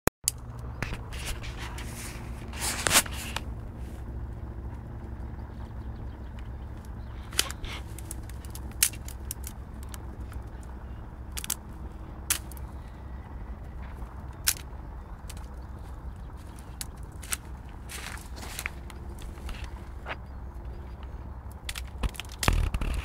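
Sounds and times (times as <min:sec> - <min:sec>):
twigs snapping and crackling: 0:00.2 - 0:23.0
low steady rumble: 0:00.3 - 0:23.0
footsteps in dry grass: 0:00.6 - 0:23.0.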